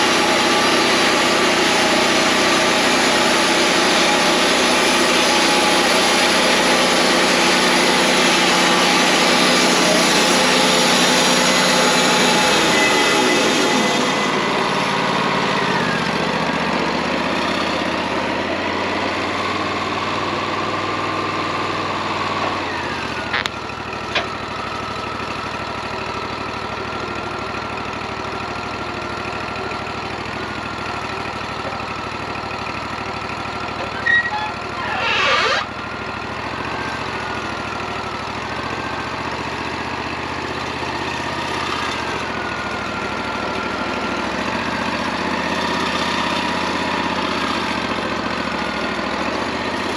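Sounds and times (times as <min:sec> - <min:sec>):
bandsaw sawmill running: 0:00.0 - 0:49.9.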